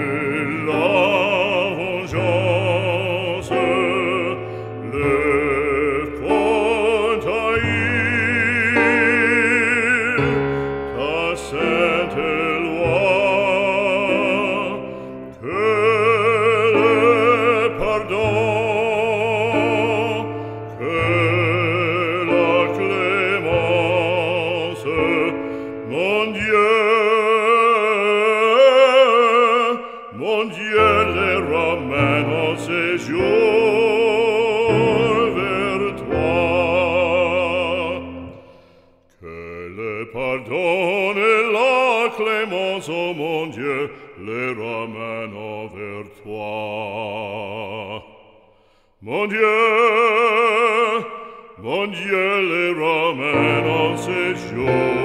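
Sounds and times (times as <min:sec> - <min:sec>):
operatic voice singing: 0:00.0 - 0:55.0.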